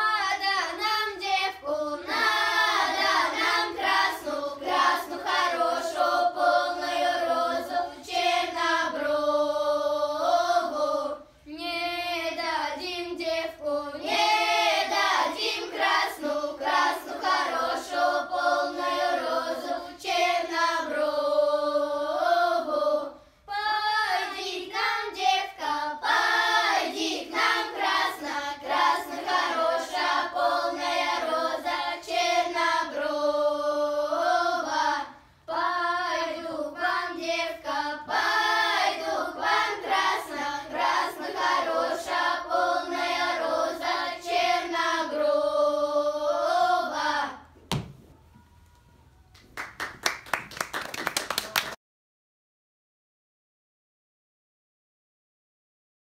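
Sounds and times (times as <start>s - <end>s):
girls choir singing a cappella: 0.0s - 47.6s.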